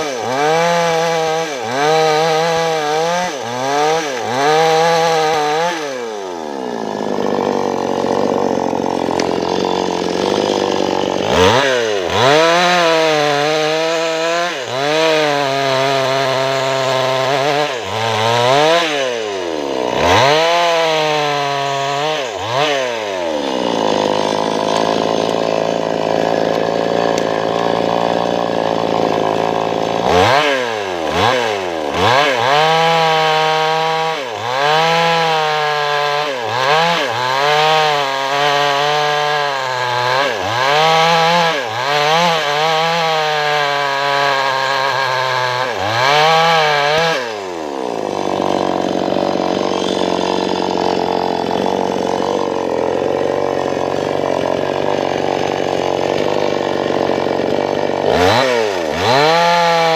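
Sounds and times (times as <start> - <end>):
chainsaw revving while cutting wood: 0.0 - 59.9.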